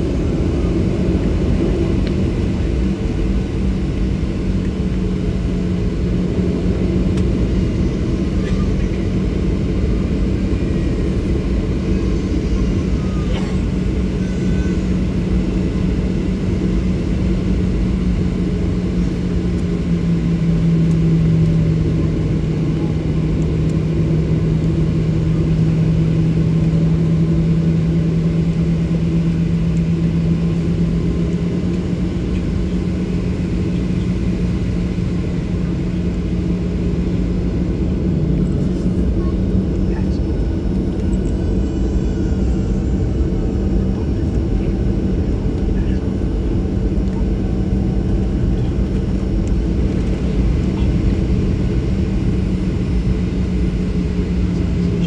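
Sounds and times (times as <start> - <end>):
jet engine drone inside cabin: 0.0 - 55.0.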